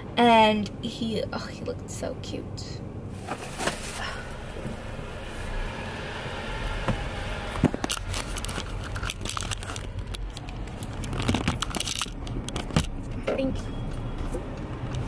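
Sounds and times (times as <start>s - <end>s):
low car engine hum: 0.0s - 15.0s.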